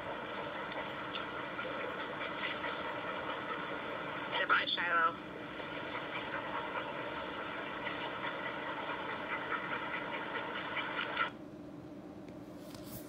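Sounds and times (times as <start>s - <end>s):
muffled hiss: 0.0s - 13.0s.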